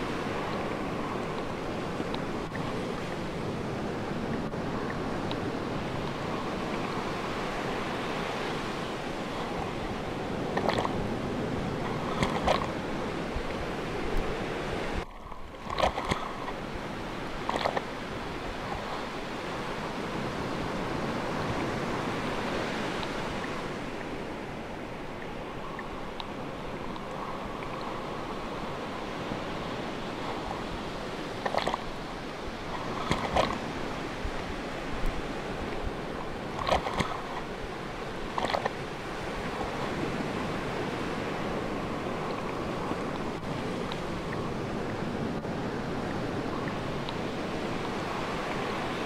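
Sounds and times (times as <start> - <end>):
sea waves washing: 0.0 - 49.0.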